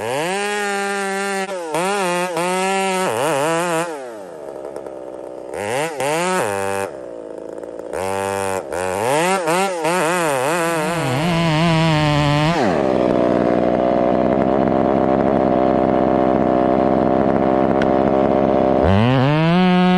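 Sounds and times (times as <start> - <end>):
chainsaw cutting wood: 0.0 - 19.9.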